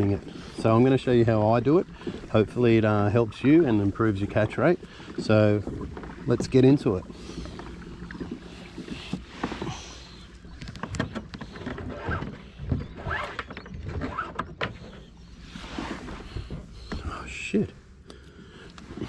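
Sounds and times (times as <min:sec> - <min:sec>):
water swishing along hull: 0:00.0 - 0:19.0
hull knocks and creaks: 0:00.5 - 0:17.2.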